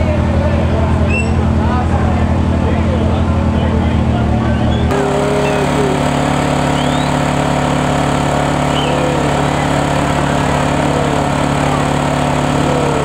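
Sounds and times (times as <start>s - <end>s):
fire truck engine idling: 0.0s - 13.0s.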